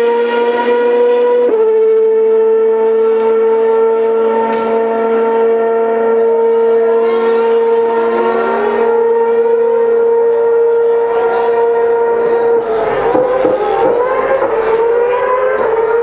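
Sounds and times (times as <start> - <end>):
racing car engine high-pitched: 0.0 - 16.0
second racing engine rising: 0.0 - 16.0.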